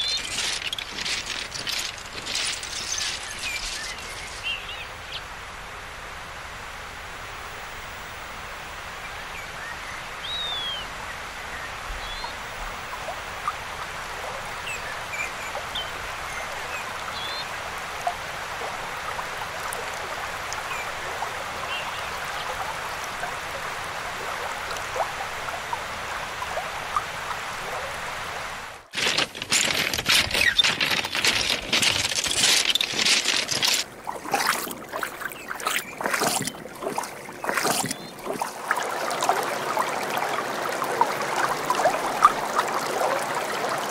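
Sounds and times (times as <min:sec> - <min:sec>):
water gurgling and splashing close: 0:00.0 - 0:05.2, 0:12.0 - 0:43.9
river rushing over pebbles: 0:00.0 - 0:43.9.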